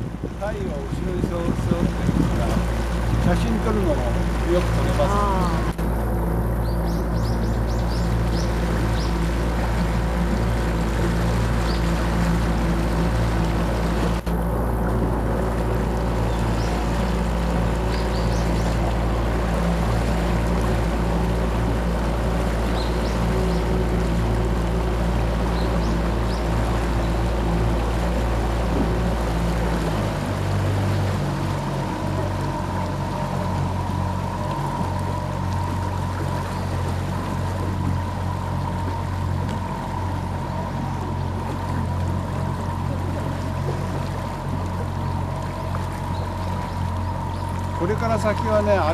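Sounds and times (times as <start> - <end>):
boat motor droning: 0.0 - 48.9
water rushing past hull: 0.0 - 48.9.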